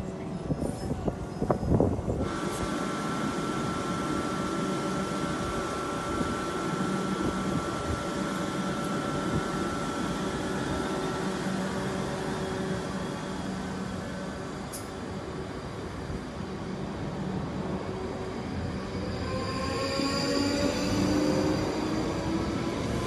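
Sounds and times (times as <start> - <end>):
electric train humming: 1.4 - 23.0.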